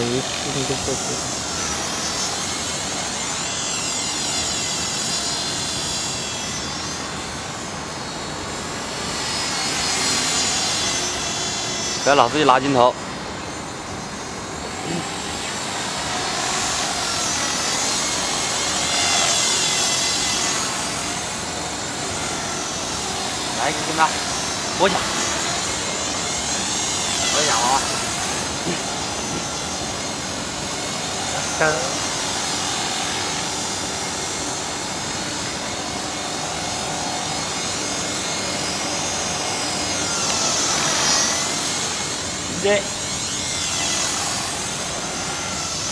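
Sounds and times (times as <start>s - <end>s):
model helicopter rotor whine: 0.0s - 45.9s.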